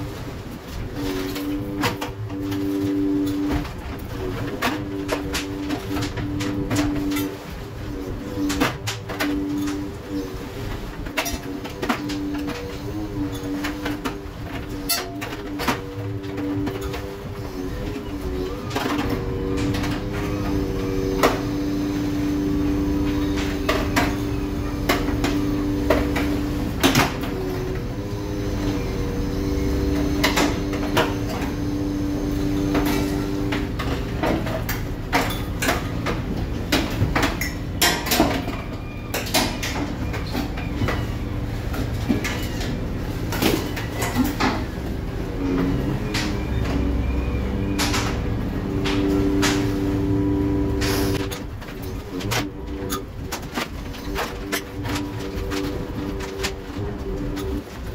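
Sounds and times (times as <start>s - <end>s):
boat engine rumble: 0.0s - 57.9s
droning machine hum: 0.0s - 57.9s.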